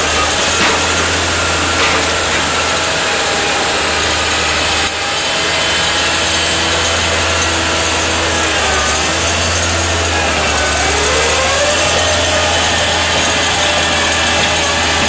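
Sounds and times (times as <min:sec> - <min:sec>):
diesel engine running under load: 0:00.0 - 0:15.0
machinery whine gliding in pitch: 0:00.0 - 0:15.0.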